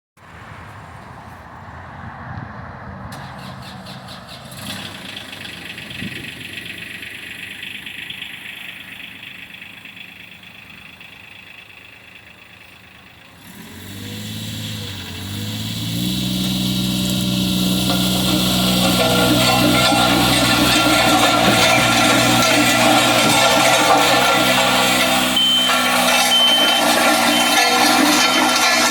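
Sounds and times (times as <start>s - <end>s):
diesel engine starting and idling: 2.9s - 28.9s.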